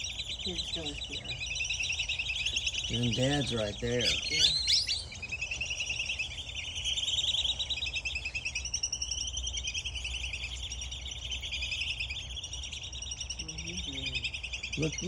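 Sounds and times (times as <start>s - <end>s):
ducks whistling: 0.0s - 15.0s.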